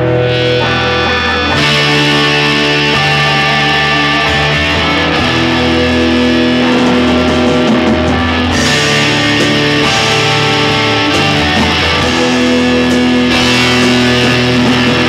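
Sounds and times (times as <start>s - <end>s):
electric guitar chords: 0.0s - 15.0s
live band playing loud music: 0.0s - 15.0s.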